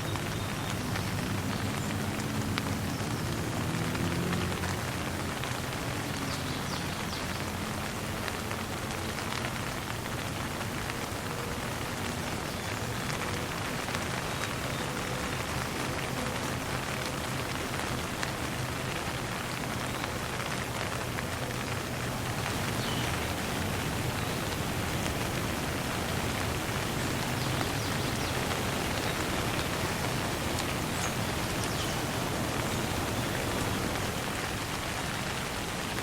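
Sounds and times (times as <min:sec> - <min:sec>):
light rain pattering: 0:00.0 - 0:36.0
water dripping: 0:00.0 - 0:36.0.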